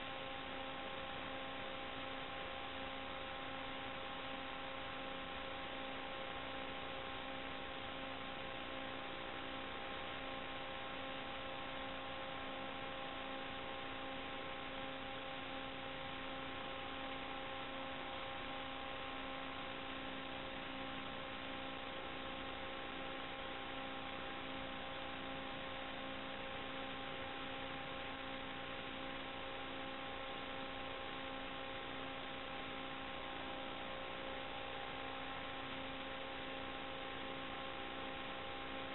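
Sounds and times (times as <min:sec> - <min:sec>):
steady electrical hum: 0:00.0 - 0:38.9.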